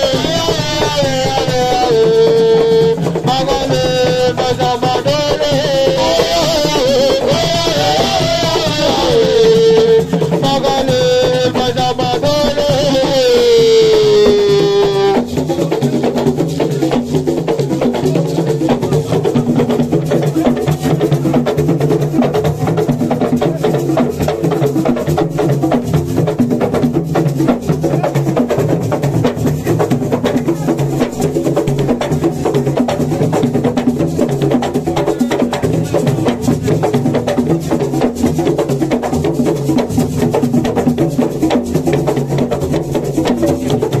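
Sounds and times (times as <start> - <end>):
hand drums fast rhythm: 0.0 - 44.0.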